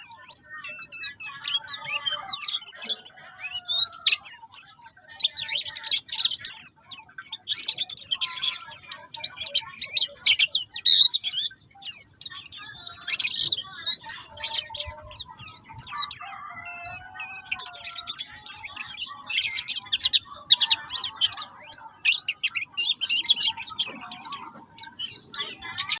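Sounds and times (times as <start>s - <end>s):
bird singing high chirps and trills: 0.0s - 26.0s.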